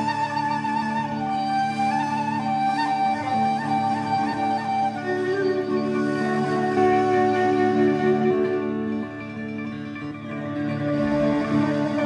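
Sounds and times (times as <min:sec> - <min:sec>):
reed flute playing long notes: 0:00.0 - 0:12.0.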